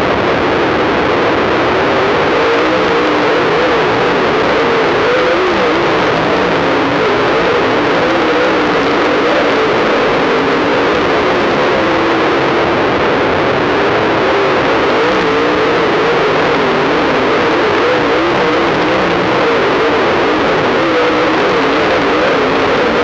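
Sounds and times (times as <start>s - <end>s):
distorted race car engines: 0.0s - 23.0s.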